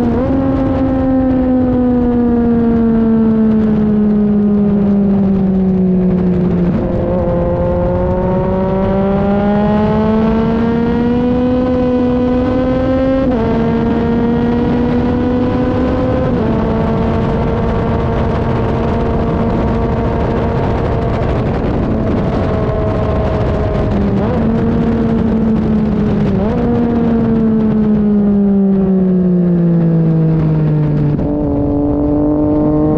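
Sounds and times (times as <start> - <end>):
motorcycle engine accelerating: 0.0 - 32.9
wind noise on microphone: 0.0 - 32.9.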